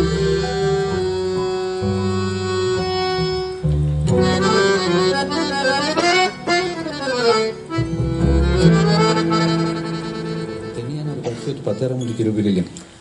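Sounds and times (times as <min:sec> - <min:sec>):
piano: 0:00.0 - 0:11.5
accordion: 0:00.0 - 0:12.5
double bass: 0:00.0 - 0:12.8.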